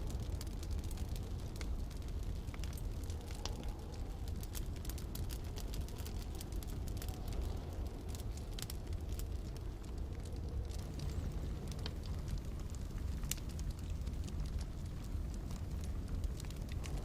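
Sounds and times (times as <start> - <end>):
storm wind rumble: 0.0 - 17.0
wood fire crackling and popping: 0.0 - 17.0.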